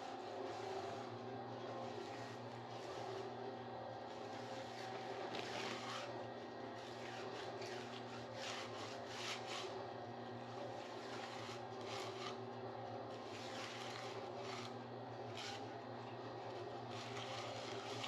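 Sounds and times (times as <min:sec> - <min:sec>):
concrete mixer humming: 0:00.0 - 0:18.0.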